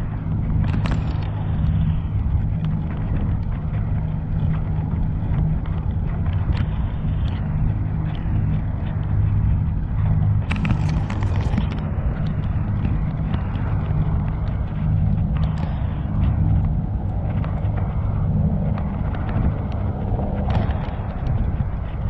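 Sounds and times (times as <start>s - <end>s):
bicycle riding noise: 0.0s - 22.0s.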